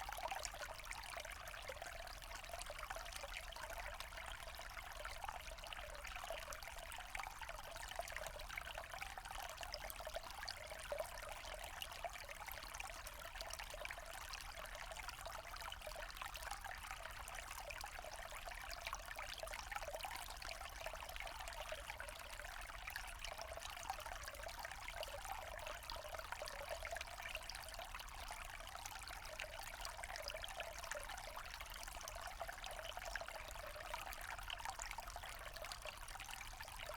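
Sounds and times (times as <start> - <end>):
stream trickling over stones: 0.0 - 36.9.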